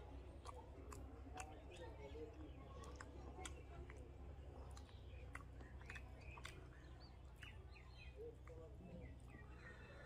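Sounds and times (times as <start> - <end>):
soft eating clicks: 0.0 - 8.8.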